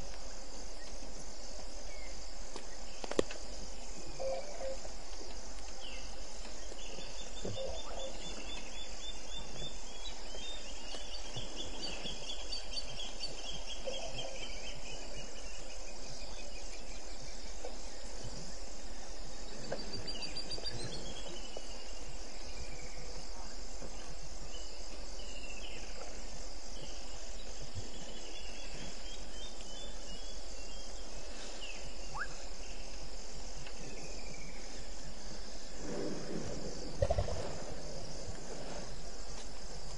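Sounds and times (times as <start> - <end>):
crickets and insects trilling: 0.0 - 39.9
low steady hum: 0.0 - 39.9
short rising insect call: 0.0 - 39.9.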